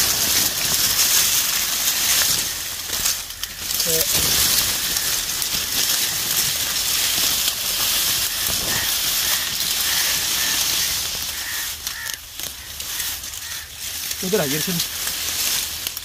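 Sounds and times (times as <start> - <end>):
bird calling: 1.4 - 15.0.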